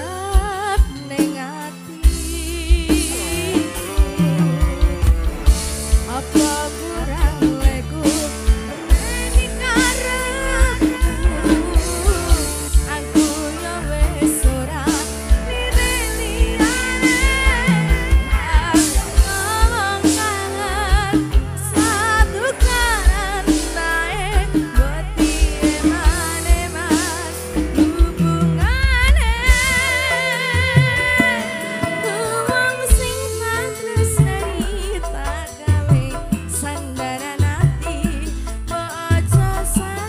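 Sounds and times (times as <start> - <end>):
woman singing: 0.0 - 4.8, 5.5 - 40.0
band with drums and bass: 0.0 - 40.0.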